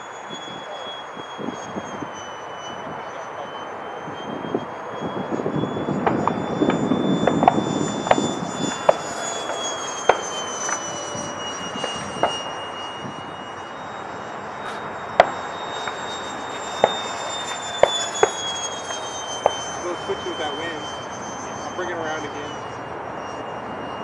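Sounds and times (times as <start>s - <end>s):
electric ducted fan whining: 0.0s - 24.0s.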